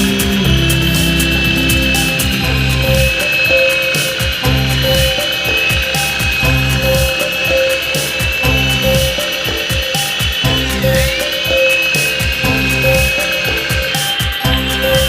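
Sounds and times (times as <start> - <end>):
background music with beat: 0.0 - 15.0
toy helicopter motor whining: 0.0 - 15.0.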